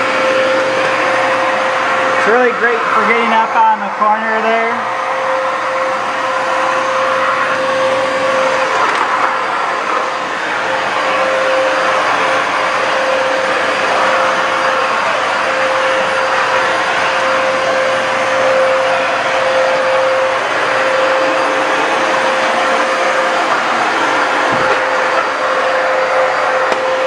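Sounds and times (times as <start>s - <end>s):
stick vacuum motor whine: 0.0s - 27.0s.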